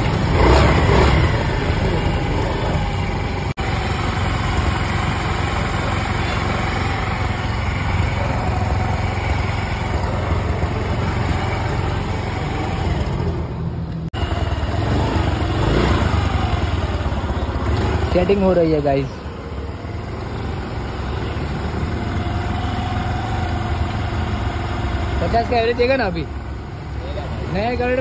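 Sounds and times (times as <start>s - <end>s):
scooter engine idling: 0.0s - 28.0s.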